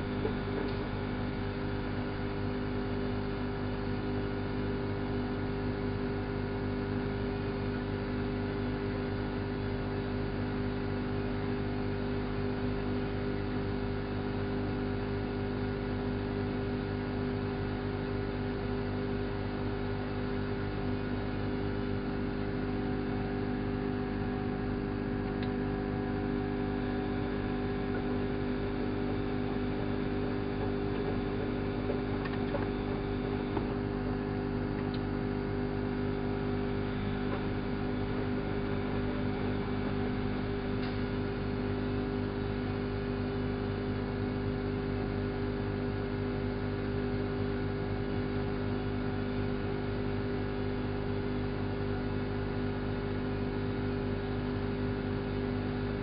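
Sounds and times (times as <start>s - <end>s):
washing machine motor drone: 0.0s - 56.0s.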